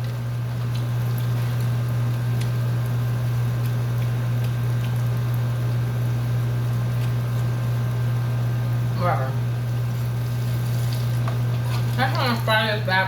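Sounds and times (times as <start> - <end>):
batter frying in hot oil: 0.0 - 13.0
steady low hum: 0.0 - 13.0.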